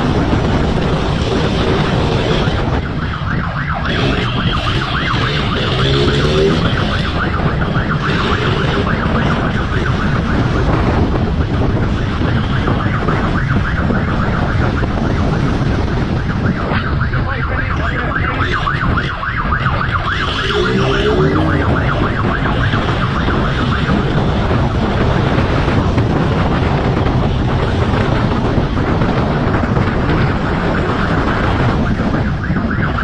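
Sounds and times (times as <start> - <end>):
police siren yelping: 0.0 - 25.9, 30.2 - 33.0
motorcycle engine rumble: 0.0 - 33.0
wind on microphone: 0.0 - 33.0.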